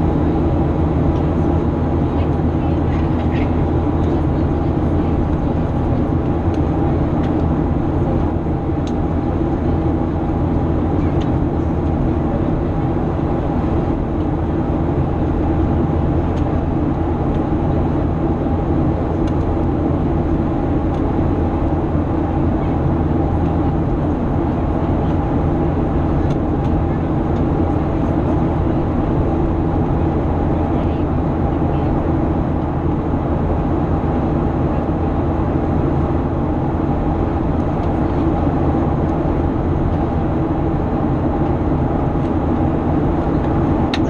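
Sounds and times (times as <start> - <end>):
aircraft cabin engine roar: 0.0 - 44.0
constant hums: 0.0 - 44.0.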